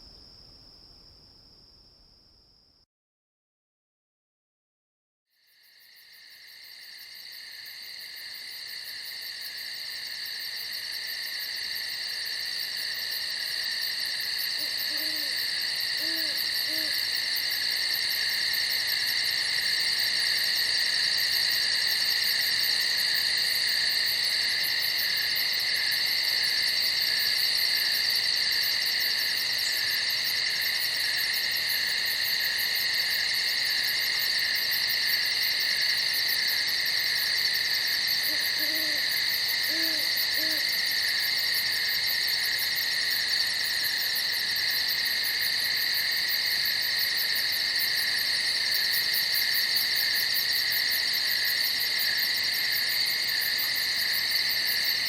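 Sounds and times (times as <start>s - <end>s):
crickets trilling: 5.4s - 55.0s.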